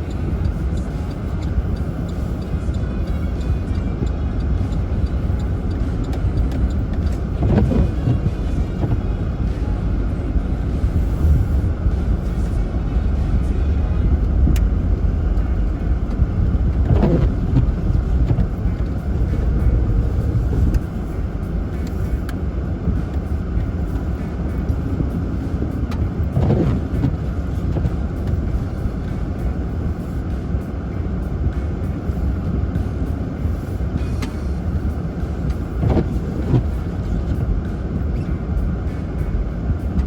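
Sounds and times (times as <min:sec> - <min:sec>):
vehicle rumble: 0:00.0 - 0:40.0.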